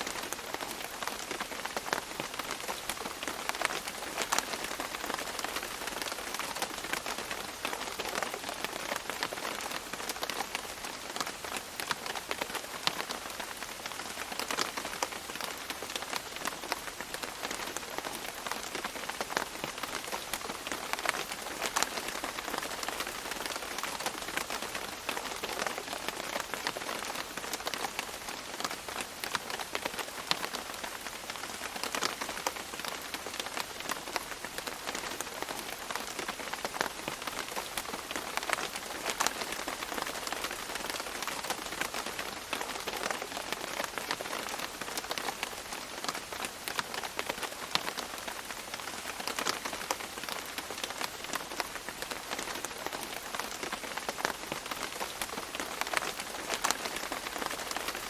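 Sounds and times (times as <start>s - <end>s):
rain pattering on leaves: 0.0s - 58.0s
rainfall hiss: 0.0s - 58.0s.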